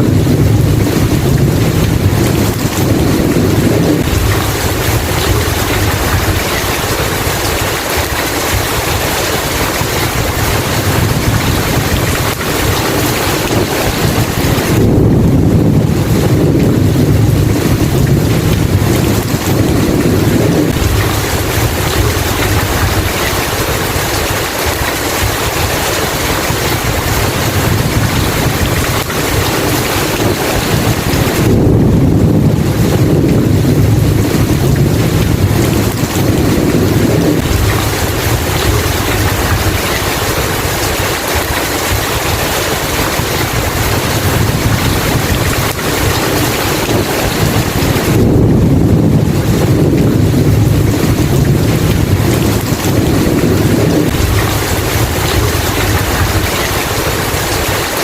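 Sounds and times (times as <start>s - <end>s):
heavy rain falling: 0.0s - 58.0s
rolling thunder: 0.0s - 58.0s.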